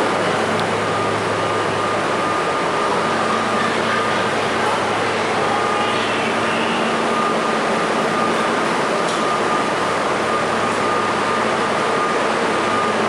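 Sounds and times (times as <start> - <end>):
subway car rushing hum: 0.0 - 13.0.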